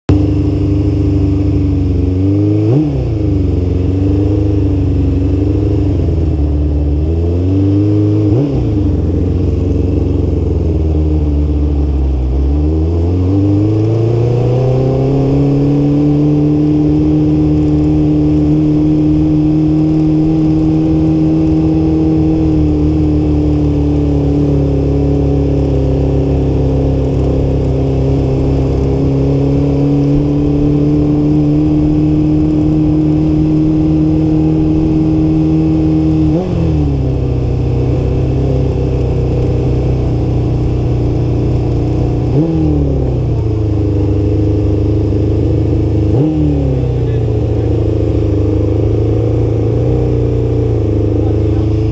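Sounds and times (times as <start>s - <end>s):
motorcycle engine riding: 0.1s - 51.9s.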